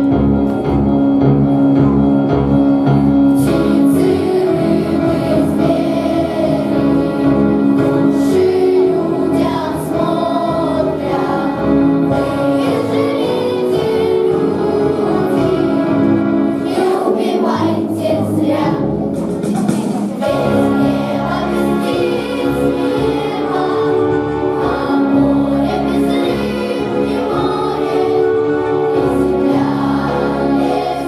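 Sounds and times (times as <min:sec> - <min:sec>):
children's choir singing: 0:00.0 - 0:31.0
instrumental accompaniment: 0:00.0 - 0:31.0.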